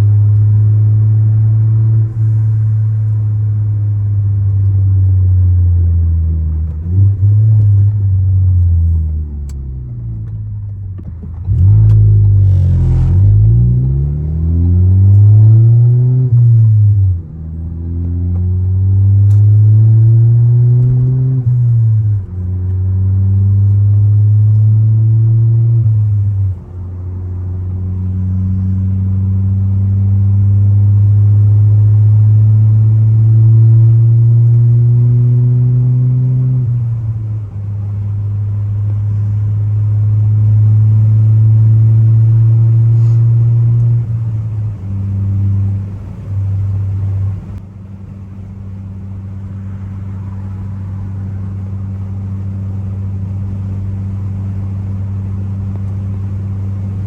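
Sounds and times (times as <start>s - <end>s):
turbocharged car engine pulling: 0.0s - 57.0s.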